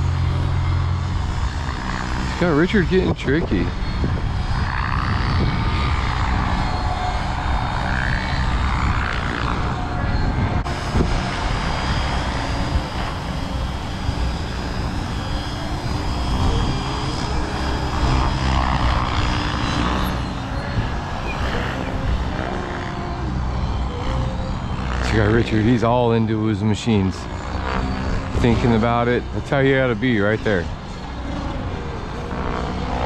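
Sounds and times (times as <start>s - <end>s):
model helicopter rotor whine: 0.0s - 33.0s.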